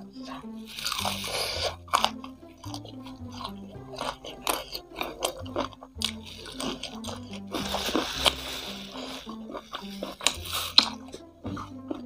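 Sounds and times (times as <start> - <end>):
background music with bass line: 0.0 - 12.0
chewing crispy food: 0.0 - 12.0.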